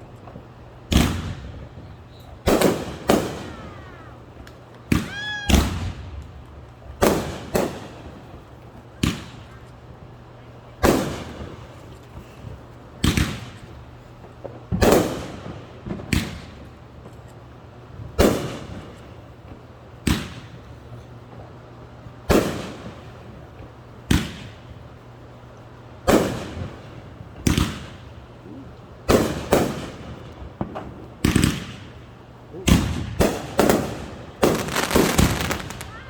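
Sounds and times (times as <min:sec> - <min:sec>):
fireworks bangs echoing: 0:00.0 - 0:04.1, 0:04.8 - 0:06.2, 0:06.8 - 0:09.6, 0:10.8 - 0:17.1, 0:17.9 - 0:21.0, 0:22.2 - 0:24.8, 0:26.0 - 0:36.0.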